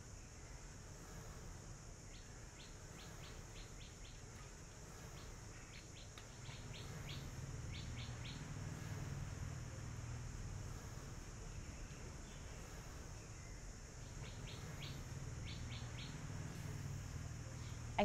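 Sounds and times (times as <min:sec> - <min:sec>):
high insect drone: 0:00.0 - 0:18.0
small birds chirping: 0:00.0 - 0:18.0.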